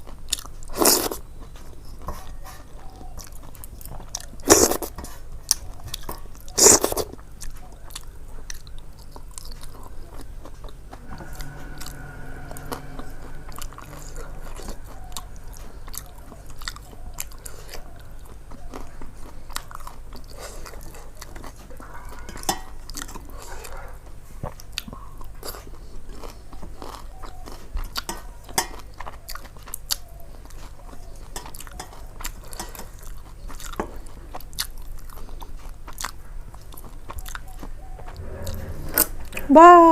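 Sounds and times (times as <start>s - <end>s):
person chewing and crunching food: 0.0s - 10.8s, 15.5s - 38.6s.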